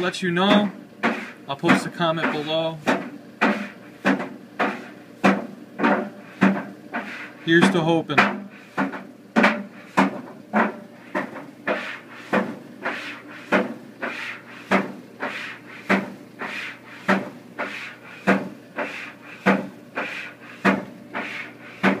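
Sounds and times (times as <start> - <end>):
clothes dryer humming: 0.0 - 22.0.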